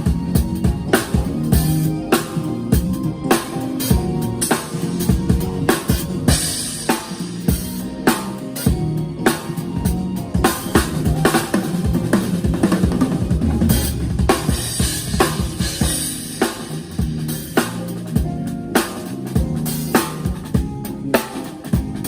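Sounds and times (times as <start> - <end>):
snare and bass drum hits: 0.0 - 22.0.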